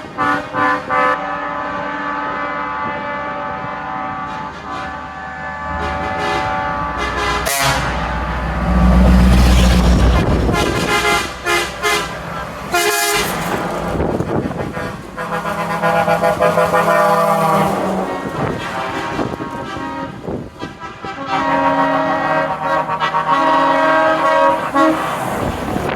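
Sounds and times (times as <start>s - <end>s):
truck horns sounding: 0.0s - 25.9s
heavy truck engines running: 2.8s - 25.9s.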